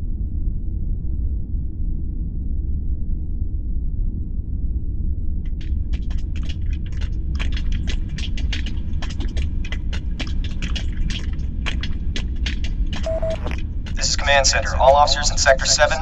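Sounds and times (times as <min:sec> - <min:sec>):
low rumbling hum: 0:00.0 - 0:16.0.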